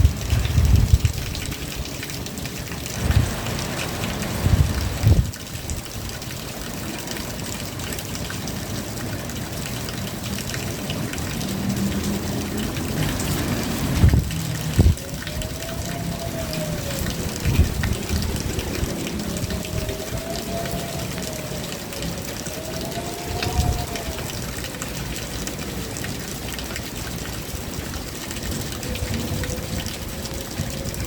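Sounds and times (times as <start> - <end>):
rain falling: 0.0 - 31.0
water running and splashing: 0.0 - 31.0.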